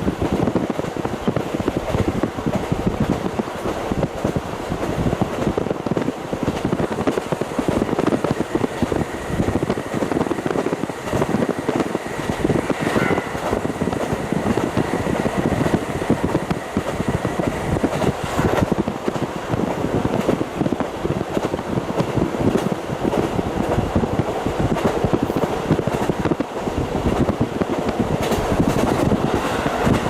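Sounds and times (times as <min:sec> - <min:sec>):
wind rushing: 0:00.0 - 0:30.0.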